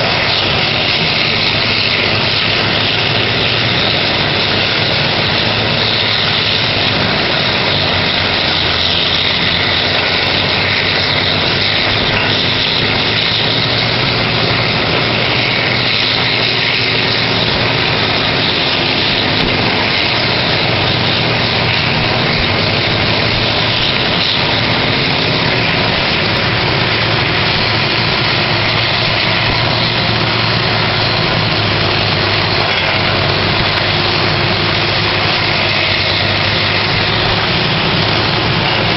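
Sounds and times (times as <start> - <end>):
diesel engine hum: 0.0 - 38.9
wood grinder grinding hiss: 0.0 - 38.9.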